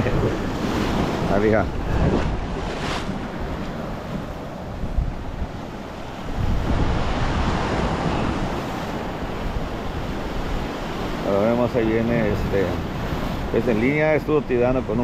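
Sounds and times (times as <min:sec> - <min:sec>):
waves breaking on rocks: 0:00.0 - 0:15.0
wind buffeting microphone: 0:00.0 - 0:15.0.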